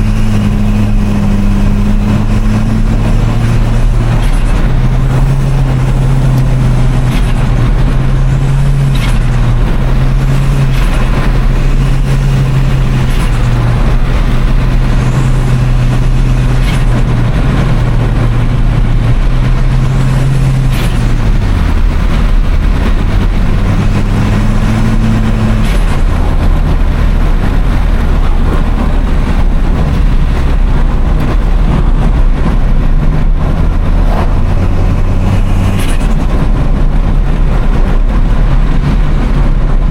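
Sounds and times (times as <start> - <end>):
turbocharged car engine running: 0.0 - 39.9.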